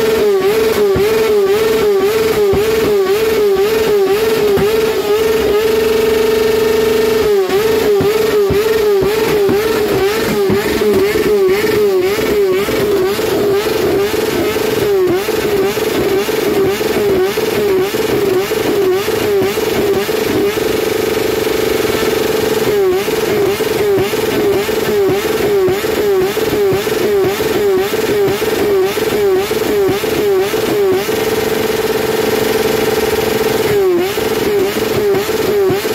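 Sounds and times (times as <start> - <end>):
exhaust pops and crackles: 0.0 - 35.9
motorcycle engine revving: 0.0 - 35.9.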